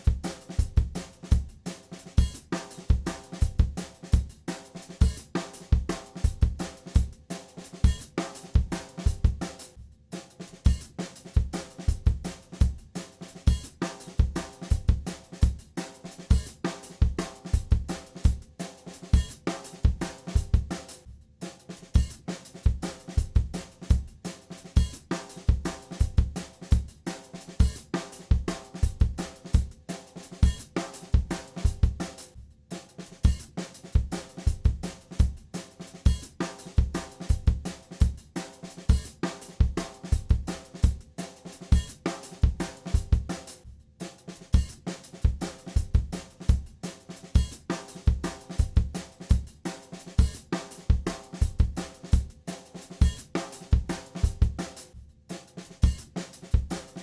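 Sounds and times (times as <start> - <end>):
background music with drum beat: 0.0 - 57.0.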